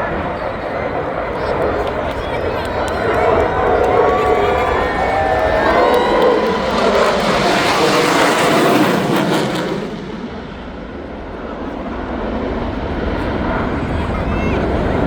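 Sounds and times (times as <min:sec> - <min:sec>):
jet fighter roar overhead: 0:00.0 - 0:15.0.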